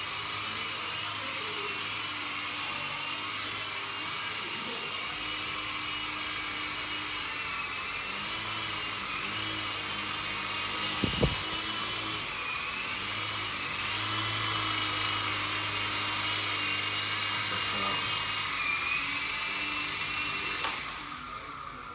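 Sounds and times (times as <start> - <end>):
toy helicopter motor whining: 0.0 - 21.9.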